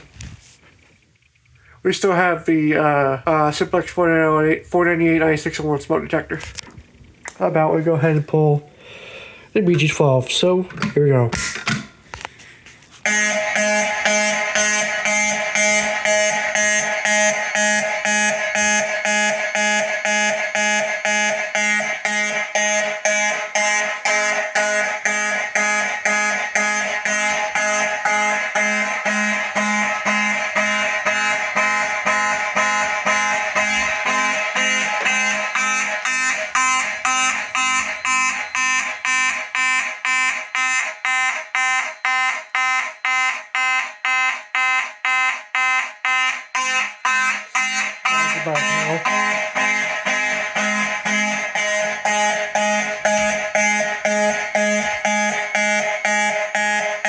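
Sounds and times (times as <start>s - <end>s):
fire alarm horns blaring: 1.4s - 11.4s, 12.1s - 57.0s.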